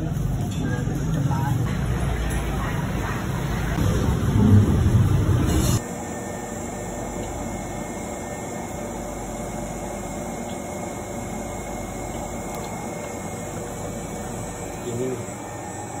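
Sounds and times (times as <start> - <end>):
ice cream machine humming: 0.0 - 16.0.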